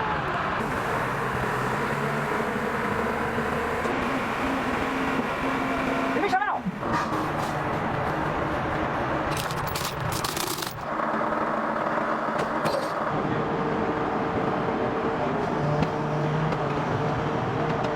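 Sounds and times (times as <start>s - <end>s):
vehicle engine humming: 0.0s - 17.9s.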